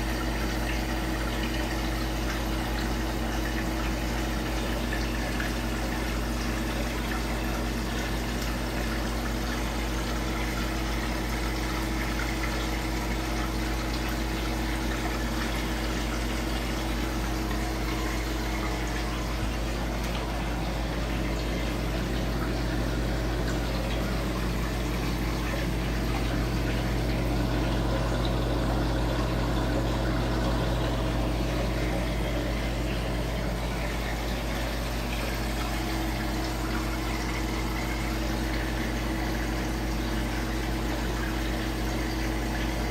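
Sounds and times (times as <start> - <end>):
aquarium pump running: 0.0 - 42.9
water circulating: 0.0 - 42.9.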